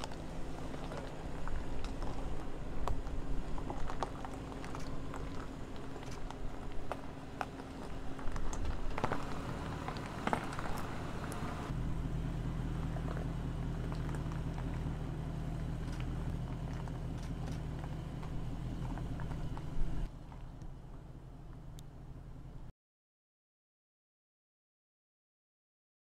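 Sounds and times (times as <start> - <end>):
tyres crunching gravel: 0.0 - 22.3
engine running low: 0.0 - 22.7.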